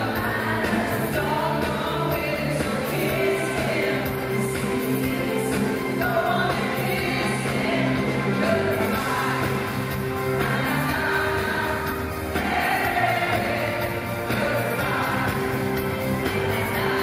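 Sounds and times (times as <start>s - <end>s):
live pop music with vocals: 0.0s - 17.0s.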